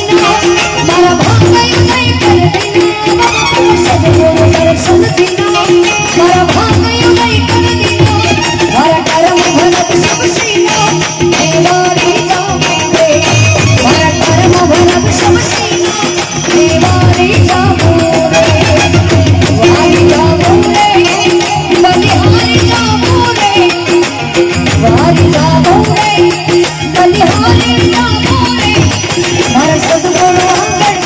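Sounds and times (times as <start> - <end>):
hand drum beat: 0.0 - 31.0
harmonium: 0.0 - 31.0
jingling hand cymbals: 0.0 - 31.0
woman singing: 0.0 - 31.0.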